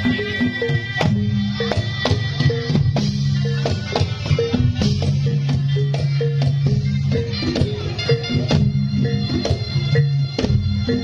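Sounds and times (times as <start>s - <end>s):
metallophone notes: 0.0s - 11.0s.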